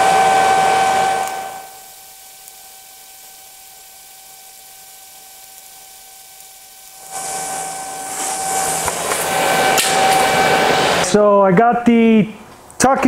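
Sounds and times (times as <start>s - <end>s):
welding arc hissing: 0.0s - 11.1s.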